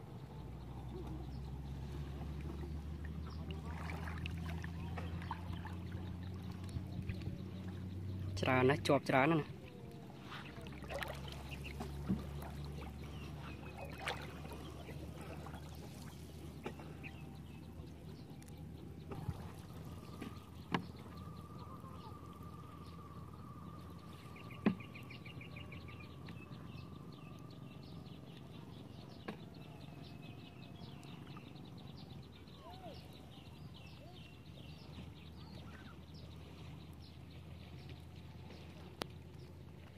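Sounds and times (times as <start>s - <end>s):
small birds chirping: 0.0s - 39.9s
water splashing and trickling: 0.0s - 39.9s.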